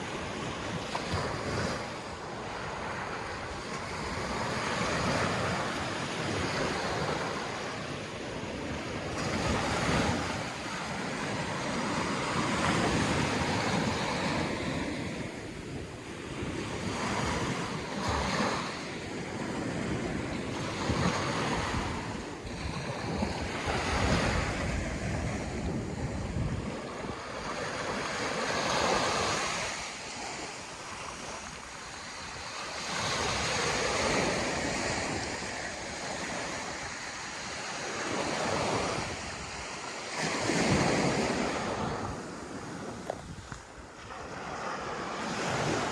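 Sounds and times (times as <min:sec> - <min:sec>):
sea waves breaking on beach: 0:00.0 - 0:45.9
wind buffeting microphone: 0:00.0 - 0:45.9.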